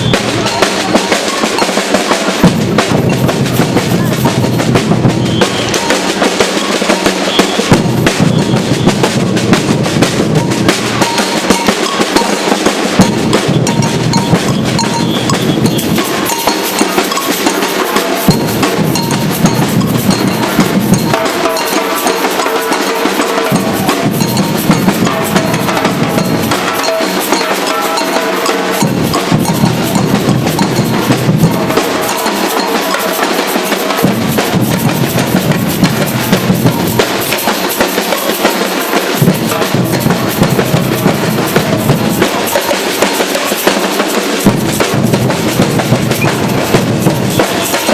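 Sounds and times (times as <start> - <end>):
samba drum band playing: 0.0 - 47.9.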